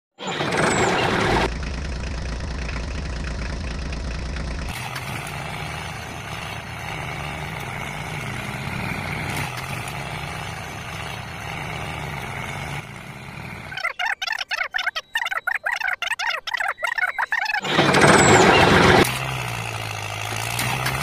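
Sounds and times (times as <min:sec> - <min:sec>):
mini tractor engine running: 0:00.2 - 0:21.0.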